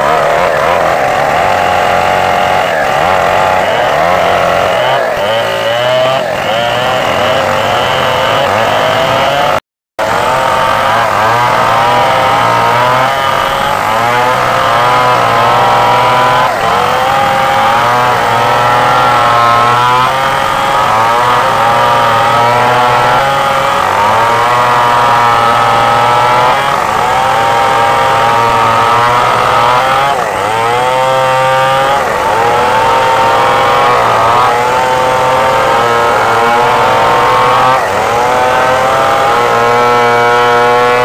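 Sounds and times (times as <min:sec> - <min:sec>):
chainsaws cutting log: 0:00.0 - 0:41.0.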